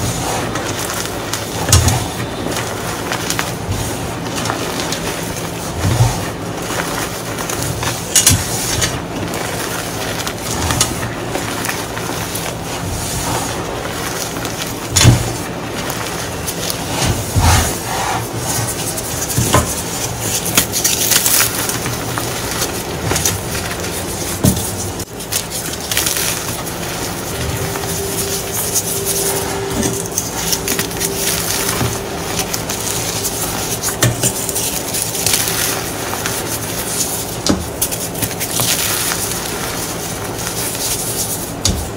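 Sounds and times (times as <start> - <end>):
chalk pieces cracking: 0.0 - 41.8
chalk crunching and rustling: 0.0 - 41.9.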